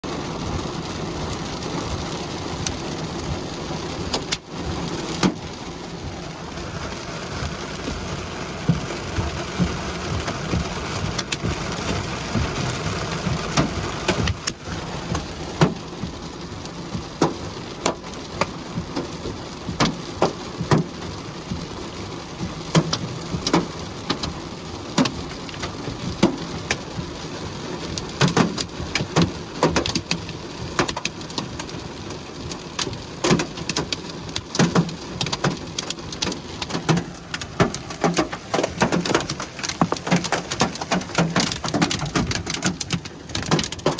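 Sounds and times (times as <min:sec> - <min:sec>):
rain hissing on vehicle: 0:00.0 - 0:43.9
hailstones knocking on vehicle: 0:00.1 - 0:43.9.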